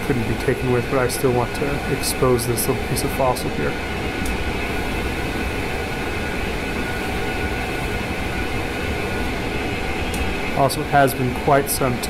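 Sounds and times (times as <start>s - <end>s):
air scribe hissing and buzzing: 0.0s - 12.0s.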